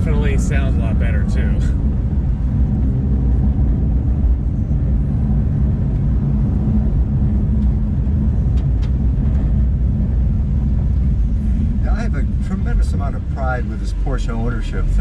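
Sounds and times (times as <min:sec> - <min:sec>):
car engine and exhaust running: 0:00.0 - 0:15.0
low road rumble: 0:00.0 - 0:15.0.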